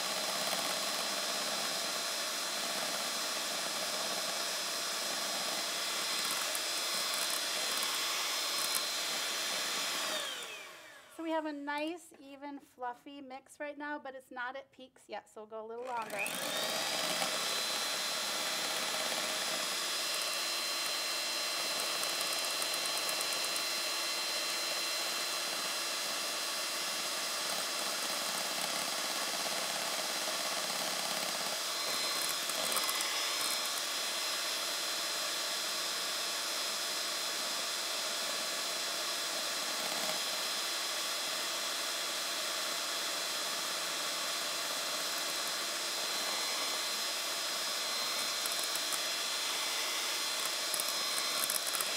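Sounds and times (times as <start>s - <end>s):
electric hand mixer whine: 0.0s - 11.2s, 15.8s - 51.9s.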